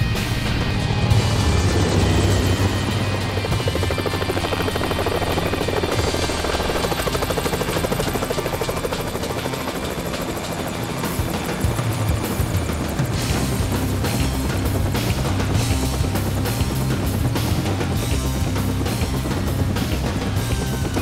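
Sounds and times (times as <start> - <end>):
film score music: 0.0 - 21.0
helicopter rotor chopping: 0.0 - 21.0.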